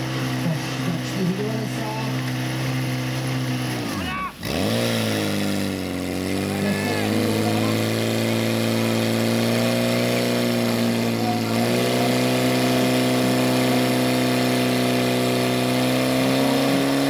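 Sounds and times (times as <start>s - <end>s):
pump engine running at high revs: 0.0s - 17.0s.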